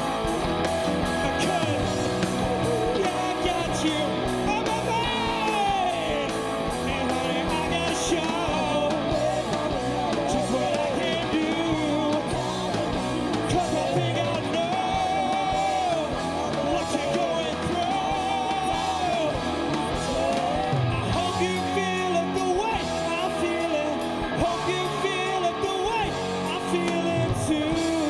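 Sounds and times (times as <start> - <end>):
bass: 0.0 - 28.0
drums: 0.0 - 28.0
electric guitar: 0.0 - 28.0
person singing lead vocal: 0.0 - 28.0.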